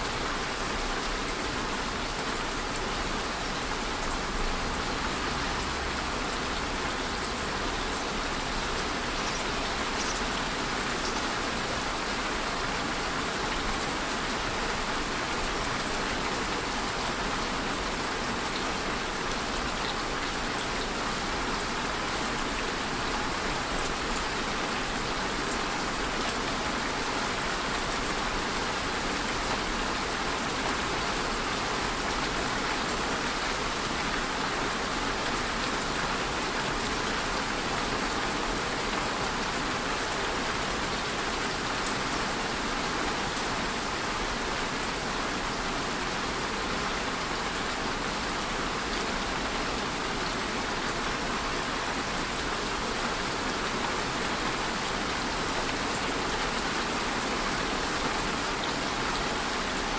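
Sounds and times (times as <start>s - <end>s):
steady rain on a surface: 0.0s - 59.9s.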